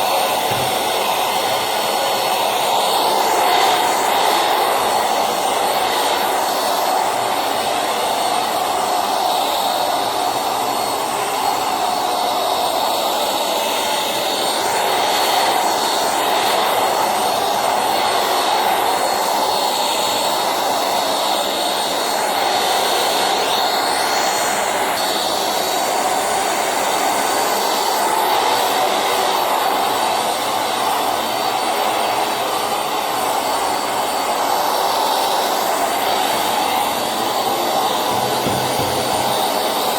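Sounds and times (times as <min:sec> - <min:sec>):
handheld vacuum cleaner running: 0:00.0 - 0:39.9.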